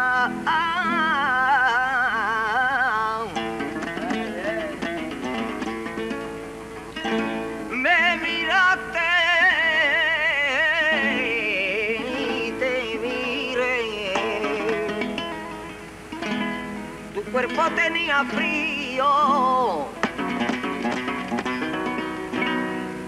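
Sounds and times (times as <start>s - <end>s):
man singing with vibrato: 0.0s - 23.0s
plucked guitar: 0.0s - 23.0s.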